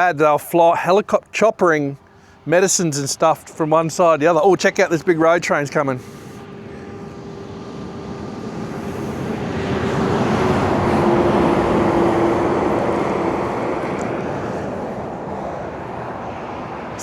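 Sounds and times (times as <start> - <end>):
truck passing: 0.0 - 17.0.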